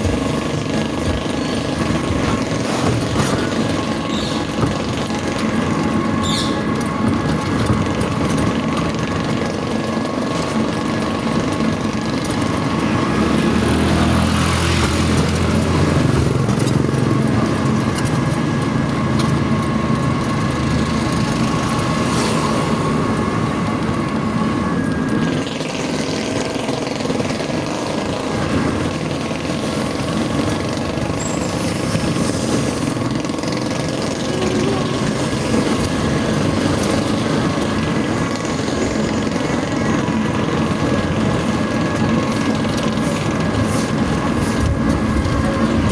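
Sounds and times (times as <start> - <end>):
low traffic rumble: 0.0 - 45.9
steady whine: 0.0 - 45.9
vehicles passing: 0.0 - 45.9.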